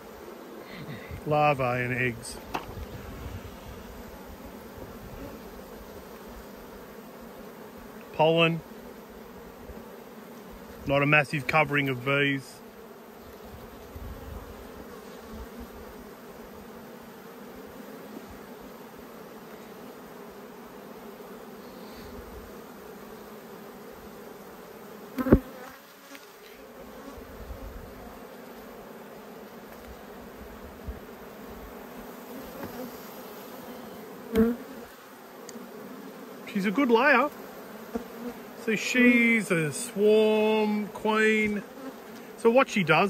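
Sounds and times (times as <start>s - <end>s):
bees humming: 0.0s - 43.0s.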